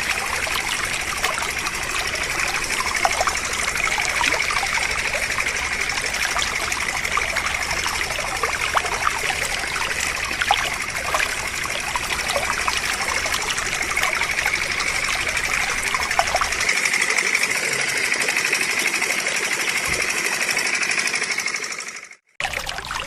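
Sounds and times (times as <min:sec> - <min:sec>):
small motor rattling: 0:00.0 - 0:22.3.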